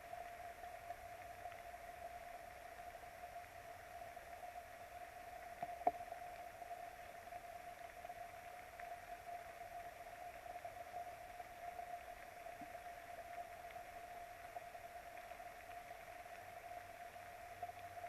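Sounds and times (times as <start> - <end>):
steady hiss with faint tone: 0.0 - 18.0.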